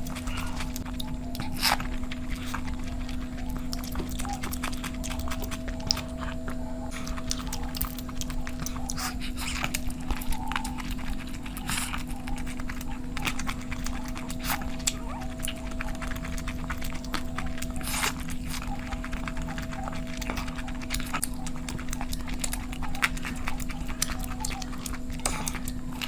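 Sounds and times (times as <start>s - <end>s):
low electrical hum: 0.0s - 26.0s
wet chewing and lip-smacking: 0.0s - 26.0s.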